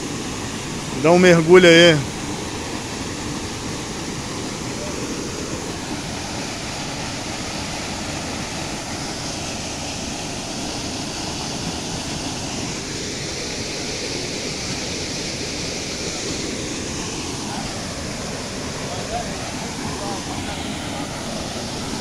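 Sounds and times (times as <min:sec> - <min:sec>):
waterfall rushing into pool: 0:00.0 - 0:22.0.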